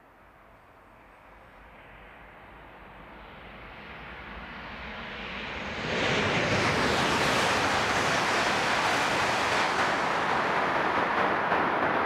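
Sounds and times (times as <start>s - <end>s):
high-speed train running noise: 0.0s - 12.0s.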